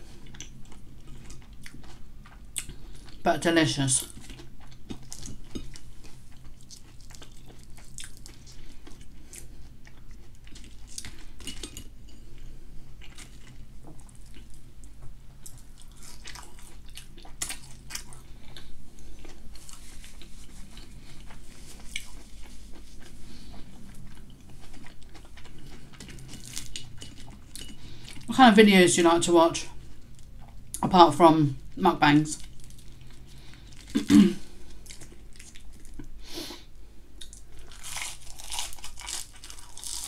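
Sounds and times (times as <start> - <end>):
person chewing onion rings: 0.0 - 3.2, 4.0 - 28.3, 32.4 - 36.2, 37.1 - 40.0.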